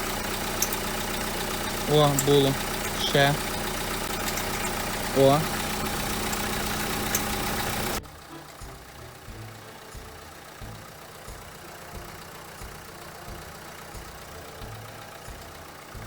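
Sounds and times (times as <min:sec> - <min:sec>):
diesel engine idling: 0:00.0 - 0:16.0
faint ticking: 0:00.0 - 0:16.0
metallic chirping: 0:00.0 - 0:16.0.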